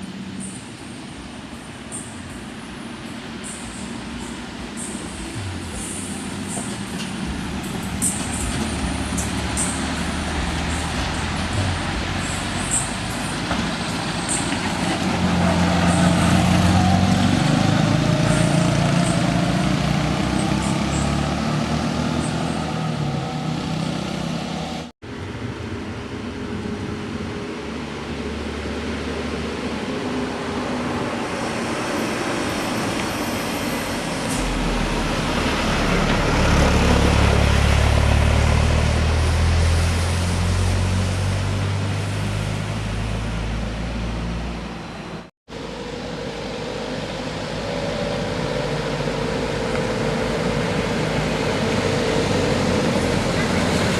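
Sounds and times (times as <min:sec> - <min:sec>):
heavy vehicles passing: 0:00.0 - 0:53.9.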